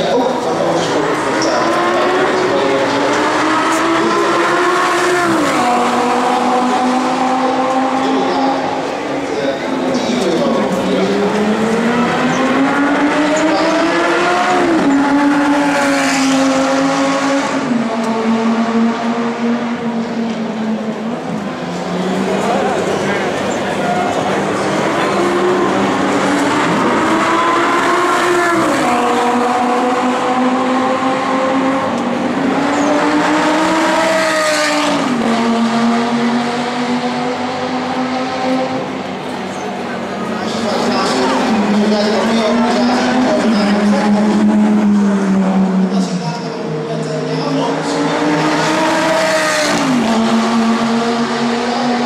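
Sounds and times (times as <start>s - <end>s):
sports car engine passing: 0.1s - 52.0s.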